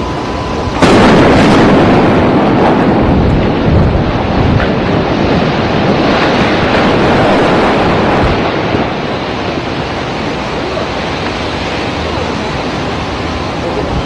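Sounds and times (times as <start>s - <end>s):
cooling towers collapsing rumble: 0.0s - 14.0s.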